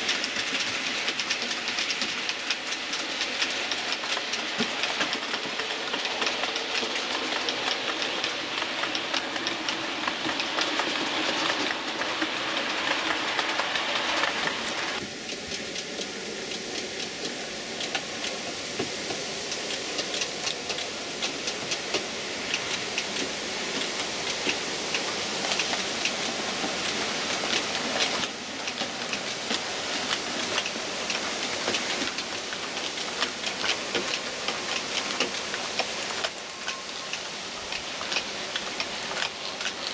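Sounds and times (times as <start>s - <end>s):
model train wheels clicking: 0.0s - 39.9s
steady rolling hiss: 0.0s - 39.9s.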